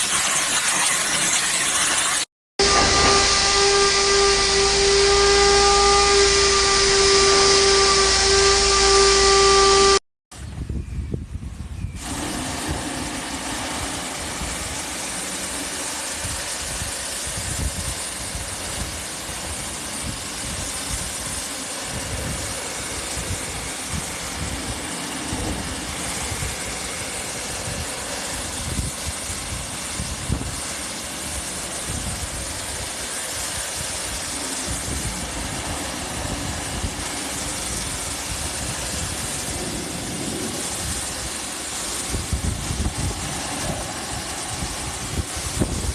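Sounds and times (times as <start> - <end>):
pressure washer water jet hiss: 0.0 - 10.0, 12.0 - 45.9
pressure washer machine rumble: 0.0 - 10.5, 11.4 - 45.9.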